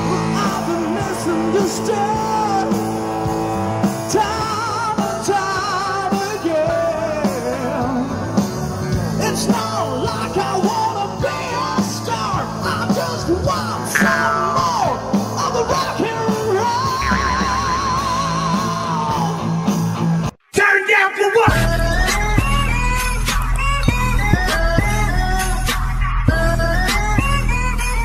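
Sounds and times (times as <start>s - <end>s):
rock song with singer and band: 0.0s - 28.0s.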